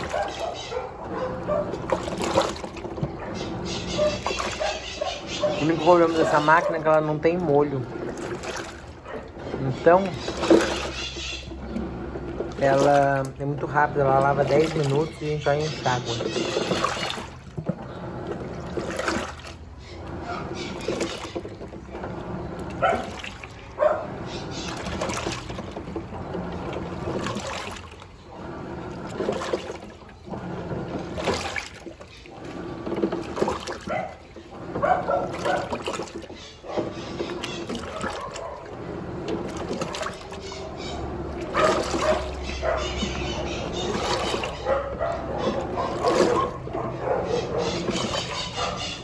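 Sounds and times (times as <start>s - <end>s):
washing machine water sloshing: 0.0s - 49.0s.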